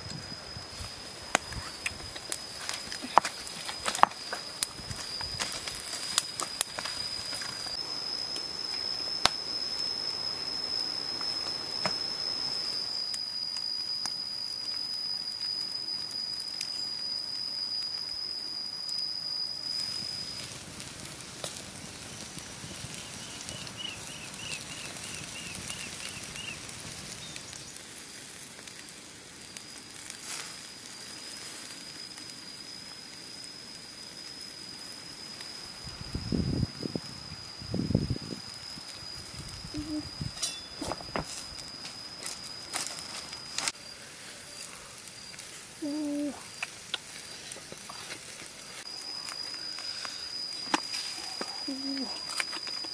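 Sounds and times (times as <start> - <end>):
steady high whine: 0.0 - 28.2, 29.1 - 52.9
crackles and pops: 0.0 - 52.9
meat sizzling over charcoal: 0.0 - 52.9.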